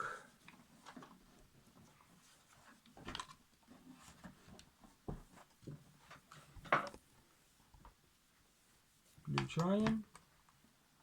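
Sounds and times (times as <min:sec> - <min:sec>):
faint knocks and handling noises: 0:00.4 - 0:10.8.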